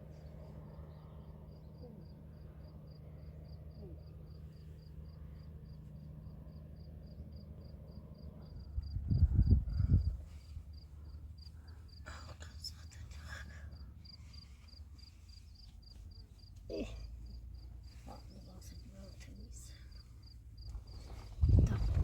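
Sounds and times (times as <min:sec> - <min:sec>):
low steady hum: 0:00.0 - 0:22.0
cricket chirping: 0:00.6 - 0:05.8, 0:06.5 - 0:13.1, 0:13.7 - 0:21.9.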